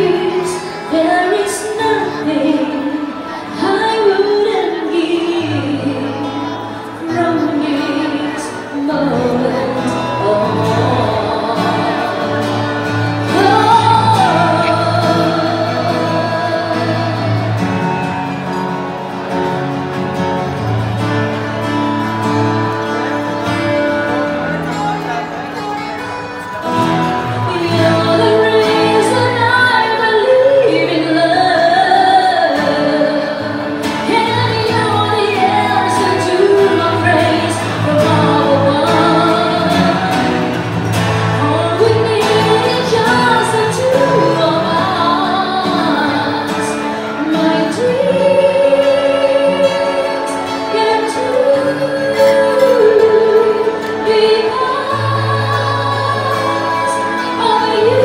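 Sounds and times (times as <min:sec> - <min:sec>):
woman singing into a microphone: 0:00.0 - 0:25.2, 0:26.0 - 0:58.0
acoustic guitar: 0:00.0 - 0:58.0.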